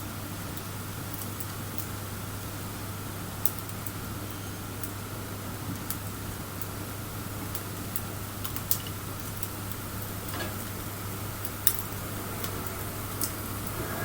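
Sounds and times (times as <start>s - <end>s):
bonfire crackling: 0.0s - 14.0s
steady low hum: 0.0s - 14.0s.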